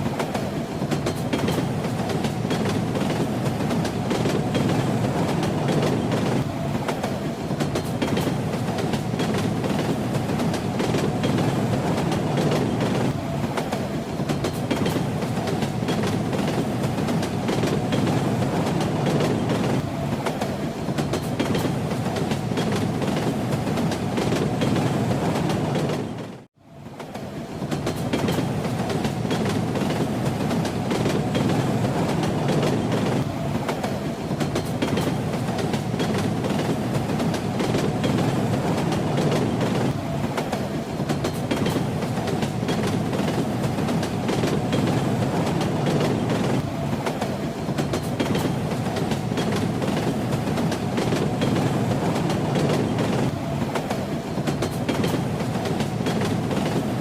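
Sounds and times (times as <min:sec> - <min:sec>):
moving train rumble: 0:00.0 - 0:57.0.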